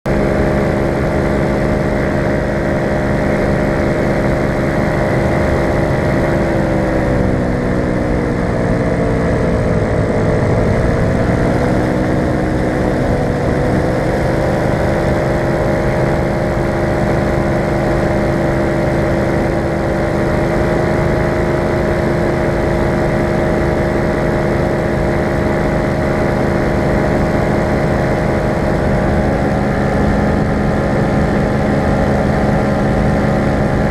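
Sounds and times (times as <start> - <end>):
paramotor engine running: 0.0 - 33.9.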